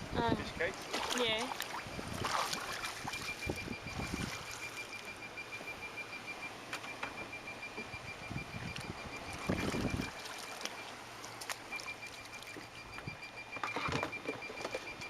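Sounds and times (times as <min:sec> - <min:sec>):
wind and water noise: 0:00.0 - 0:15.0.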